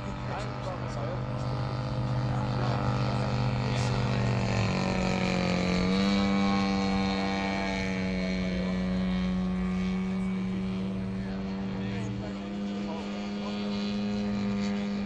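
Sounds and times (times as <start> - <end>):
model airplane engine: 0.0 - 15.0.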